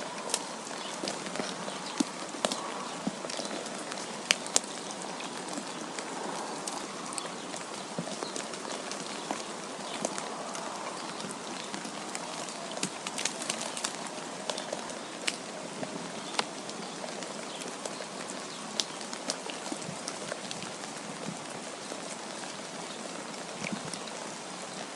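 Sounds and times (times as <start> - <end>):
small ticks pattering on a surface: 0.0 - 24.9.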